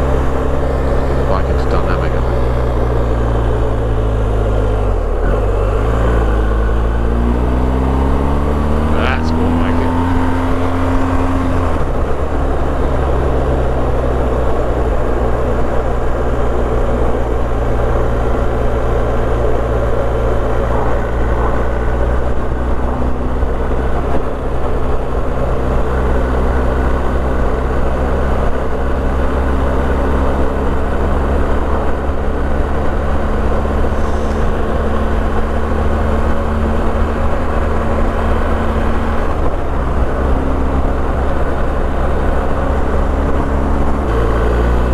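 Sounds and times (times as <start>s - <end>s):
motorcycle engine cruising: 0.0s - 44.9s.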